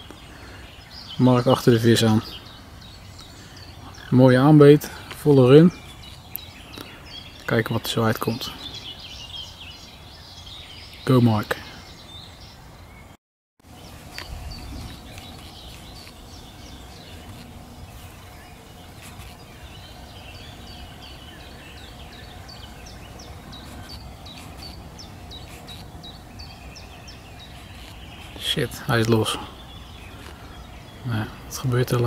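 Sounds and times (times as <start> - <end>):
small birds chirping: 0.0 - 32.0
steady background hiss: 0.0 - 32.0.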